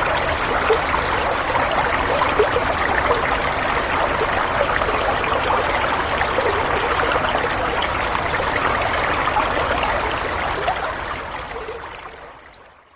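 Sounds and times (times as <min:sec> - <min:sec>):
stream trickling and bubbling: 0:00.0 - 0:12.9.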